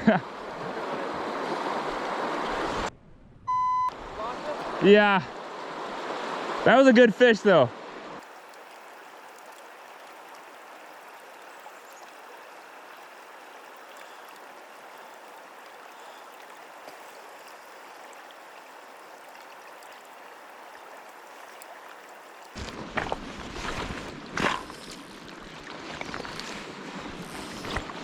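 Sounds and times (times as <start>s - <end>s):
river water rushing: 0.0s - 2.9s, 4.0s - 7.0s, 7.6s - 28.0s.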